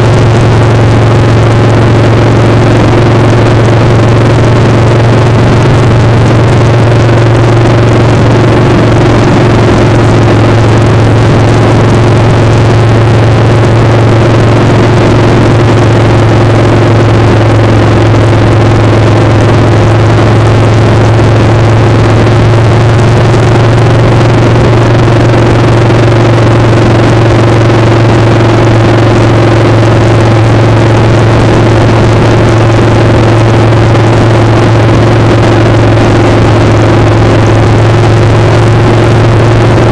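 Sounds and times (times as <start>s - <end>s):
motorcycle engine running: 0.0s - 39.9s
rushing wind: 0.0s - 39.9s.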